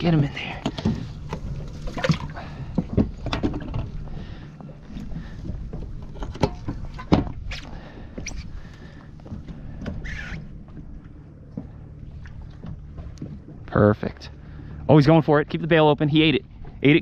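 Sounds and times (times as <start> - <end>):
wind and water against hull: 0.0 - 17.0.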